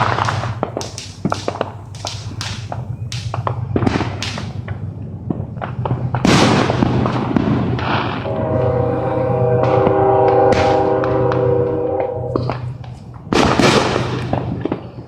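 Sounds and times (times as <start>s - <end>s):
fireworks popping and banging: 0.0s - 8.3s, 9.6s - 15.0s
steady low hum: 0.0s - 15.0s.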